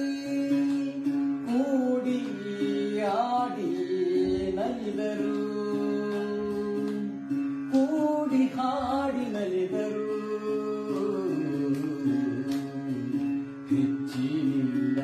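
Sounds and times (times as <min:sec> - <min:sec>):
man singing without words: 0:00.0 - 0:07.0, 0:07.7 - 0:15.0
plucked one-string lute drone: 0:00.0 - 0:15.0.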